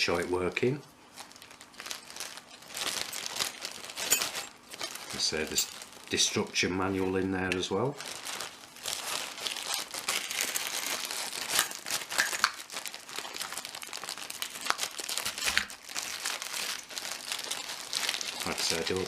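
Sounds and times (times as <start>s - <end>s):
packaging crinkling and rustling: 1.0s - 19.0s.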